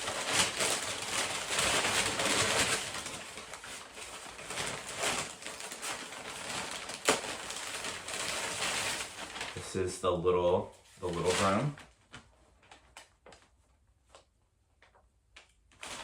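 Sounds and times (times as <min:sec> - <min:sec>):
packaging rustling and crinkling: 0:00.0 - 0:10.1, 0:10.8 - 0:16.0.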